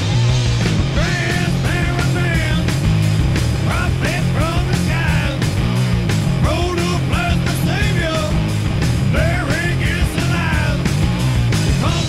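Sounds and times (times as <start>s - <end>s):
loud punk rock music: 0.0s - 12.0s.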